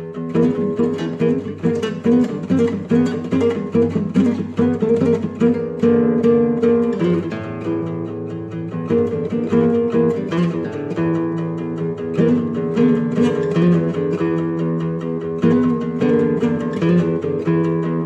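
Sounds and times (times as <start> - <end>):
solo guitar riffs: 0.0 - 18.0.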